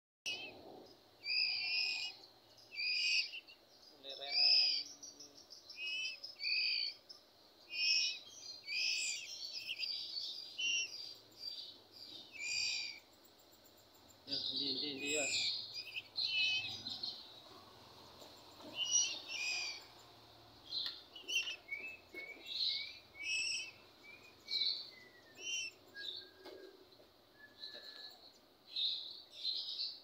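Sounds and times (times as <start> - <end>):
nestlings begging calls: 0.3 - 26.2.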